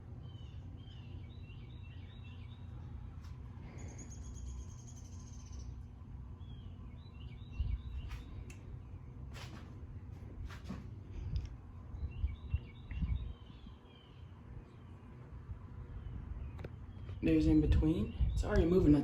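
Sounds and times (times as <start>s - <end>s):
birds chirping: 0.0s - 9.5s, 11.6s - 19.0s
ceiling fan humming: 0.0s - 19.0s.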